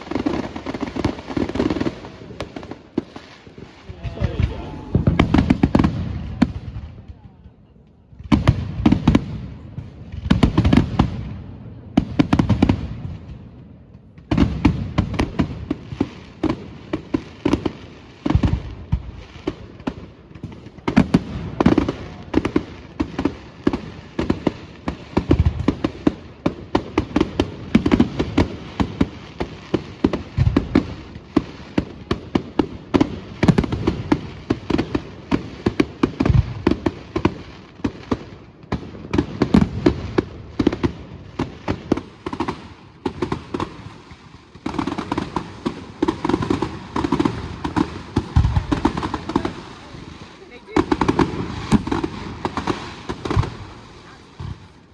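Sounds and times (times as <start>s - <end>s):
fireworks bangs and booms: 0.0s - 54.9s.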